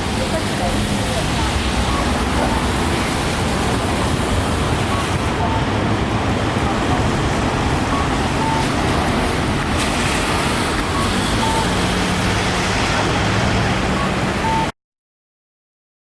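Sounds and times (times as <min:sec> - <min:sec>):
pedestrian crossing signal call: 0:00.0 - 0:09.7, 0:10.3 - 0:12.6, 0:13.6 - 0:14.7
street traffic: 0:00.0 - 0:14.8.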